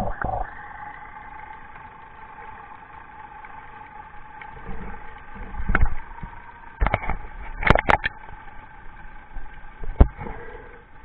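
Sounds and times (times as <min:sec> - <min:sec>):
boat engine hum underwater: 0:00.0 - 0:11.0.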